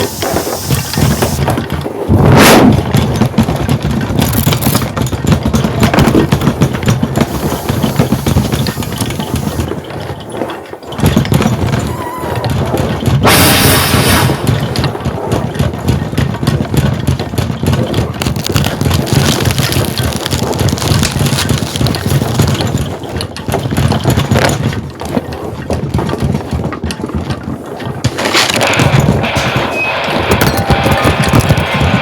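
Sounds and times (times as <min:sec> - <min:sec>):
deep earthquake rumble: 0:00.0 - 0:10.0, 0:10.9 - 0:22.8, 0:28.1 - 0:32.0
rattling and clattering: 0:00.0 - 0:32.0.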